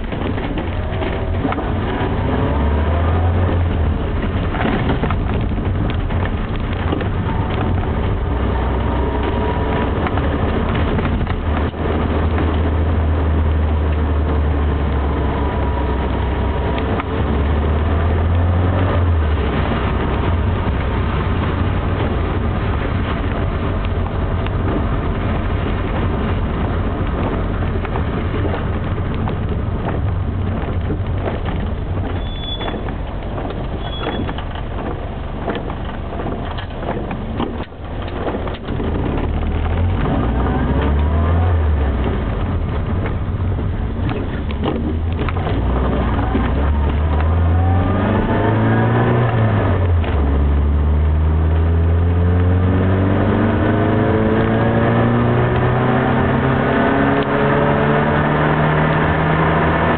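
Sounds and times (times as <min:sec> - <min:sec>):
car engine from inside cabin: 0:00.0 - 0:59.9
tyre and road noise: 0:00.0 - 0:59.9.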